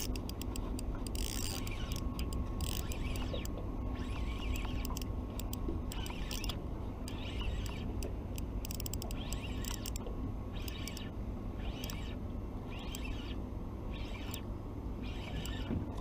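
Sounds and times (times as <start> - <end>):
spinning reel clicking: 0.0 - 13.4, 14.0 - 14.5, 15.1 - 15.7.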